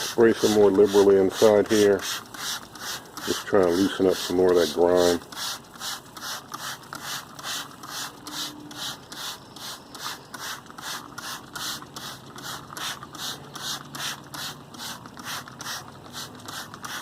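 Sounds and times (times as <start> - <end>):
spray bottle squirting: 0.0 - 17.0.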